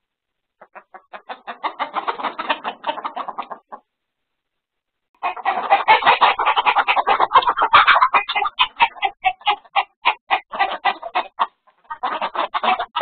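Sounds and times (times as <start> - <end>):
chickens clucking: 0.5 - 4.0, 5.2 - 13.0
chickens squawking: 0.6 - 3.9, 5.2 - 13.0.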